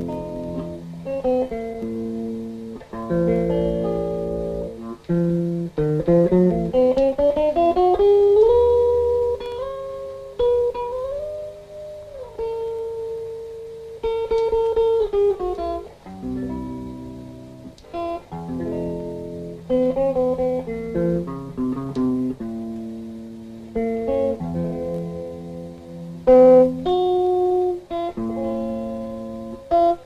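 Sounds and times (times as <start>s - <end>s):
slow solo guitar: 0.0s - 30.0s.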